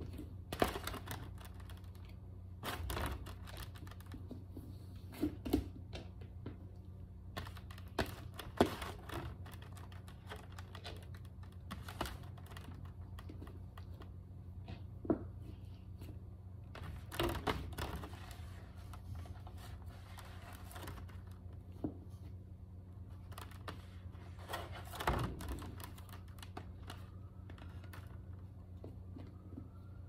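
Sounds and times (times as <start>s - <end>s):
small clicks and scratchy rustles: 0.0s - 5.1s, 6.7s - 30.0s
steady low hum: 0.0s - 30.0s.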